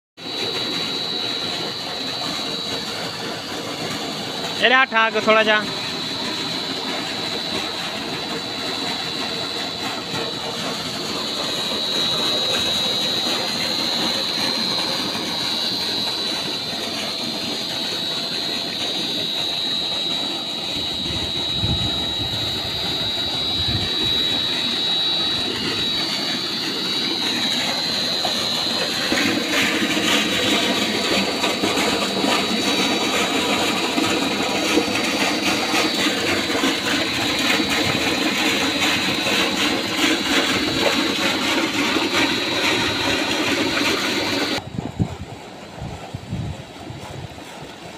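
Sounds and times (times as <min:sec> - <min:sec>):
high whine: 0:00.2 - 0:45.3
electric pump running: 0:00.2 - 0:47.9
water gushing from pipe: 0:00.2 - 0:47.9.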